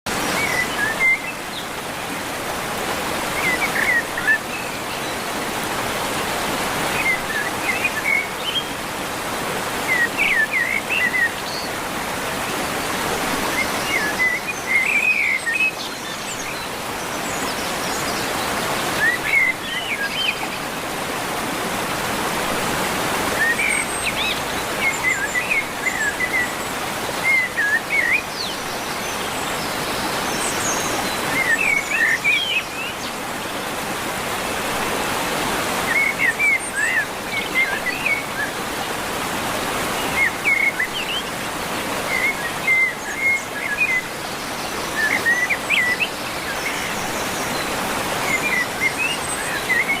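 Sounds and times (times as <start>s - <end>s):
running water: 0.1s - 50.0s.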